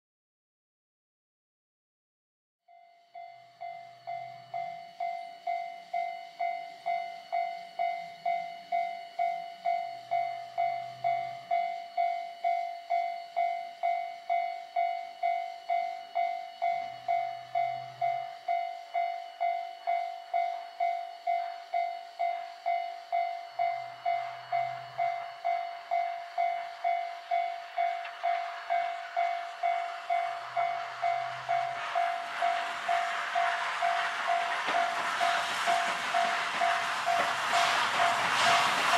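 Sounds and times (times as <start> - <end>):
level-crossing warning bell ringing: 2.7 - 38.9
steam locomotive approaching: 3.2 - 38.9.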